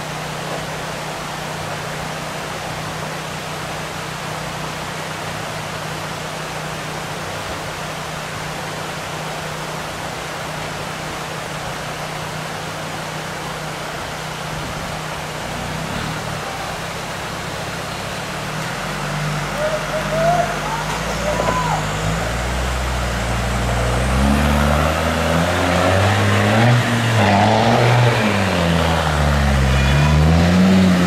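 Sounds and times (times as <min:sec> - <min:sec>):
car engine drone: 0:00.0 - 0:31.0
stream water over rocks: 0:00.0 - 0:31.0.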